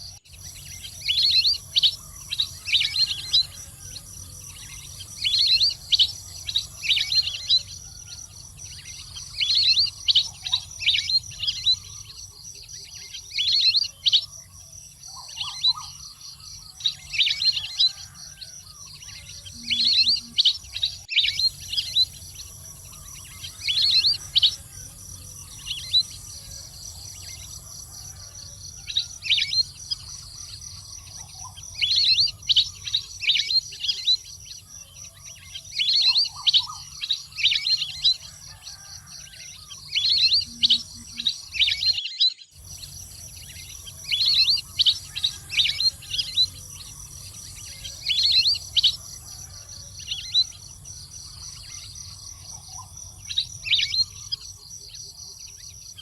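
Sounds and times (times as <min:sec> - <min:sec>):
waterfowl chirping calls: 0:00.0 - 0:14.4, 0:15.1 - 0:34.2, 0:34.8 - 0:54.9
insects buzzing: 0:00.0 - 0:56.0.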